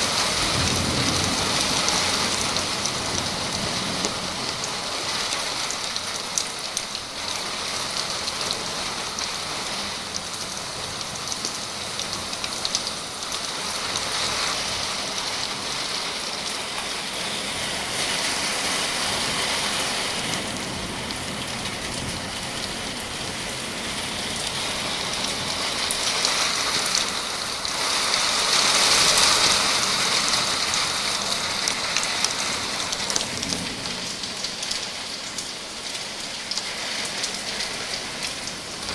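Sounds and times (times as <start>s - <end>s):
rain pouring: 0.0s - 38.9s.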